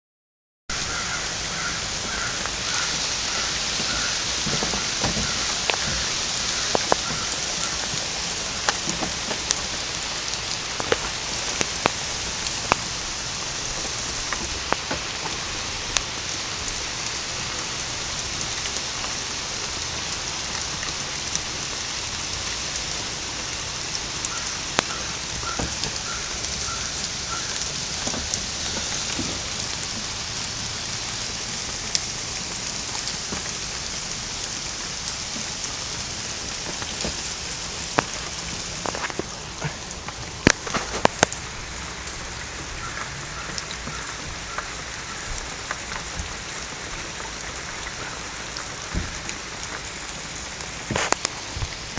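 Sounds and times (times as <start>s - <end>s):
raindrops clicking close by: 0.7s - 51.9s
steady rain falling: 0.7s - 51.9s.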